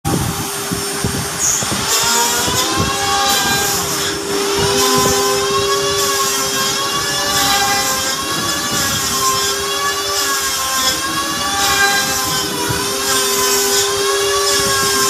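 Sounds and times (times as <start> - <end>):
cnc router whining: 0.1 - 15.0.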